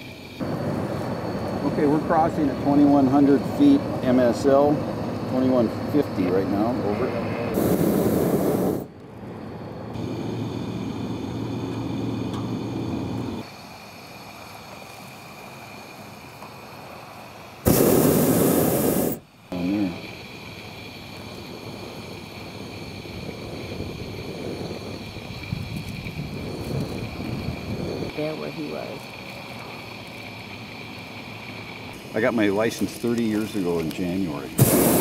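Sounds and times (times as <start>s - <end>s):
propane burner blast: 0.2s - 35.0s.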